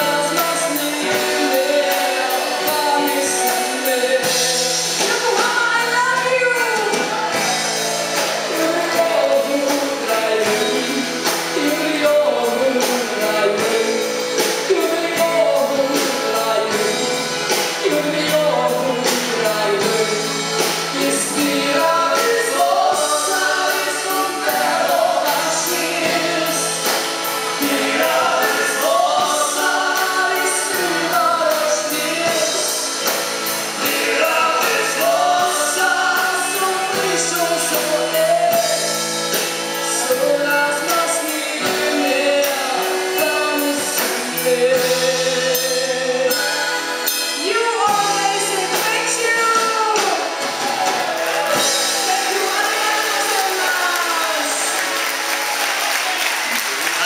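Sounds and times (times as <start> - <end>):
woman singing: 0.0 - 7.5, 8.2 - 26.9, 27.6 - 32.9, 33.8 - 38.9, 39.8 - 50.3, 52.0 - 54.8
acoustic guitar: 0.0 - 57.0
drum kit beat: 0.0 - 57.0.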